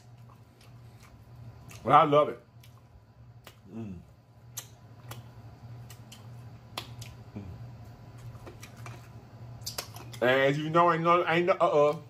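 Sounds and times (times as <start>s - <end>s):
man chewing with mouth clicks: 0.0s - 1.9s, 2.5s - 10.2s
steady low hum: 0.0s - 12.0s.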